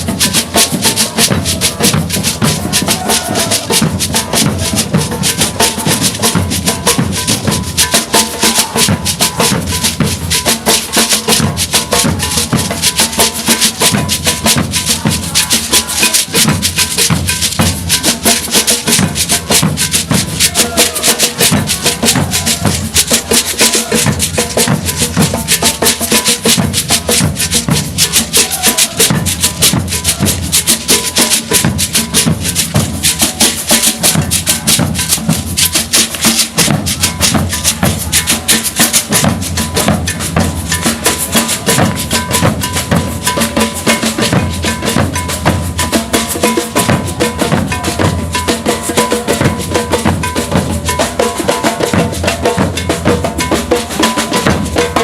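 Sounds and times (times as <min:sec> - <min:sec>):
shakers: 0:00.0 - 0:55.0
snare drums: 0:00.0 - 0:55.0.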